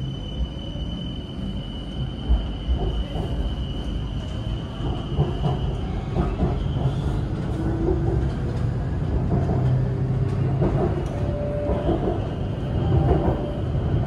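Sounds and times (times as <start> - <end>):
electric train rumble: 0.0 - 14.0
train squeals and knocks: 0.0 - 14.0.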